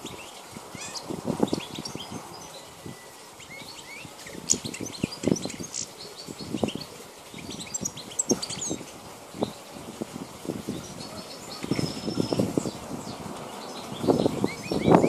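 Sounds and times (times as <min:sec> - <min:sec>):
goldfinch twittering: 0:00.0 - 0:15.0.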